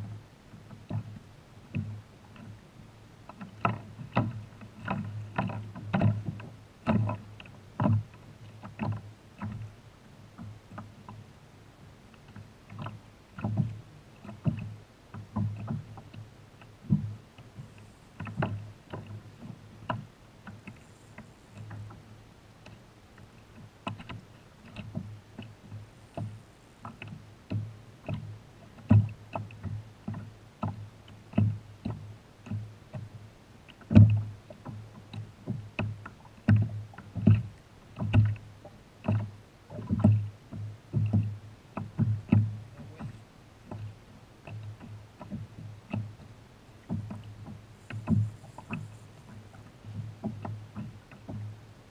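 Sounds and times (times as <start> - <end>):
waves slapping against kayak hull: 0.0 - 51.9.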